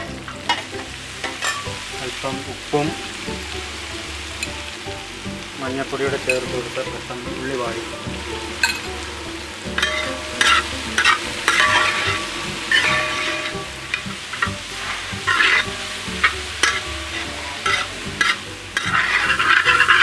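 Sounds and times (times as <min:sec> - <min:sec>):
spoon scraping metal pot: 0:00.0 - 0:02.0, 0:02.7 - 0:20.0
onions sizzling in oil: 0:00.0 - 0:20.0.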